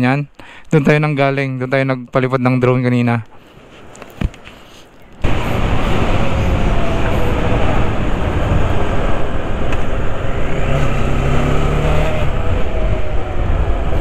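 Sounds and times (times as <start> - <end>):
road and wind noise: 2.6 - 14.0.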